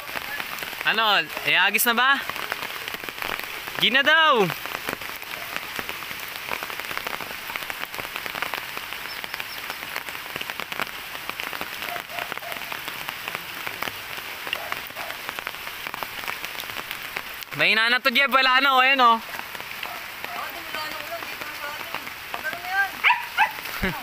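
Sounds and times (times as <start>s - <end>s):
light rain falling: 0.0s - 24.0s
raindrops tapping: 0.0s - 24.0s.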